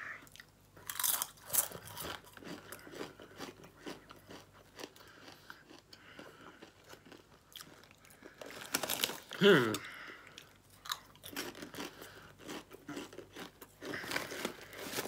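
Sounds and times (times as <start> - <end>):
crunchy crisp chewing: 0.3 - 9.4, 10.1 - 15.0.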